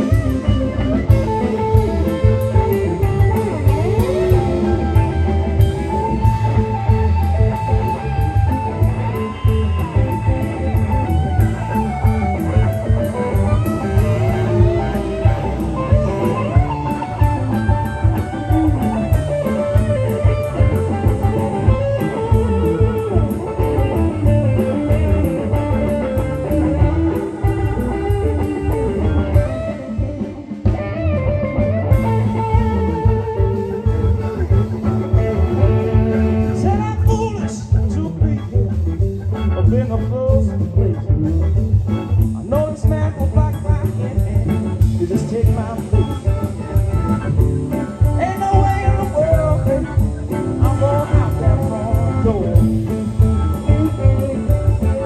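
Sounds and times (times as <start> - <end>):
bass: 0.0 - 55.0
drums: 0.0 - 55.0
electric guitar: 0.0 - 55.0.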